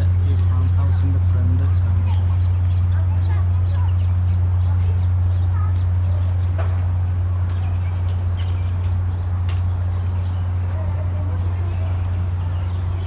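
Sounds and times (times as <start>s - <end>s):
loud low hum: 0.0s - 13.0s
small birds chirping: 0.0s - 13.0s.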